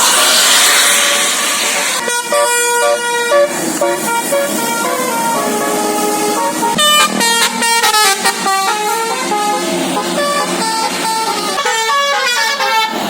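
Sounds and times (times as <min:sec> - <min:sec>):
loud rushing hiss: 0:00.0 - 0:11.4
musical air horn tune: 0:00.0 - 0:13.0.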